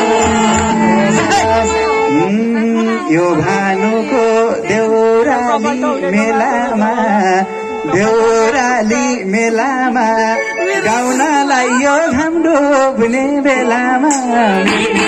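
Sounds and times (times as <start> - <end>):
live folk music: 0.0 - 15.0.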